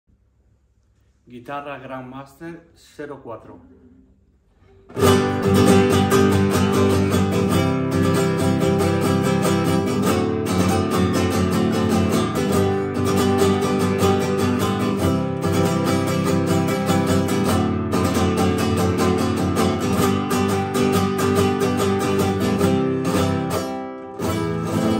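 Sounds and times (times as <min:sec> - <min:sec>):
classical guitar strumming: 0:04.6 - 0:24.9.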